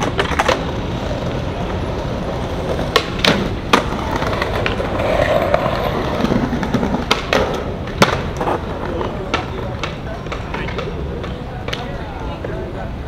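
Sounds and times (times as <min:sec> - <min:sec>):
skateboard scraping on concrete: 0:00.0 - 0:12.8
skateboard clacking: 0:00.0 - 0:13.0
skateboard wheels rolling on pavement: 0:00.0 - 0:13.0.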